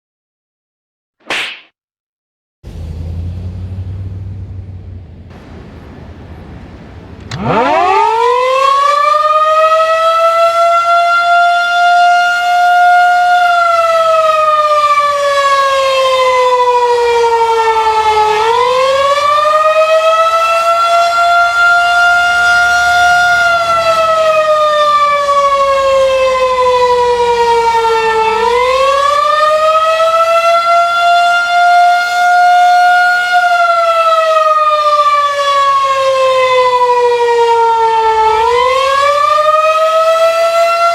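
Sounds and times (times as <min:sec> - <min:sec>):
wavering warning siren: 0:02.7 - 0:40.9.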